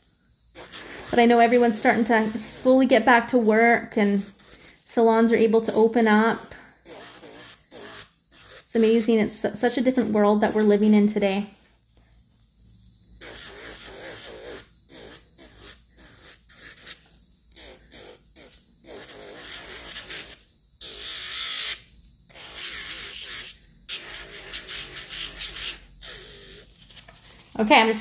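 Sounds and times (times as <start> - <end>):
electric nail file grinding: 0.0 - 28.0.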